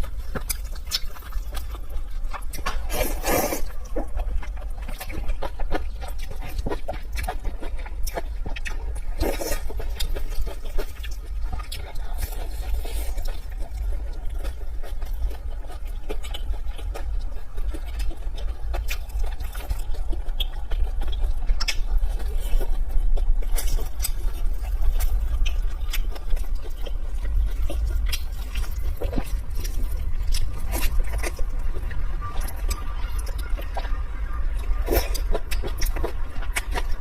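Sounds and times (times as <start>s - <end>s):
steady low hum: 0.0s - 37.0s
wet chewing and smacking: 0.0s - 37.0s.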